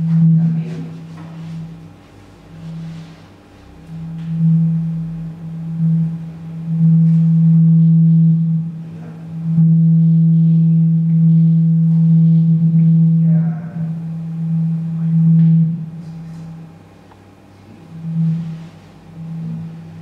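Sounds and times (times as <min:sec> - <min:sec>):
low electronic drone tone: 0:00.0 - 0:20.0.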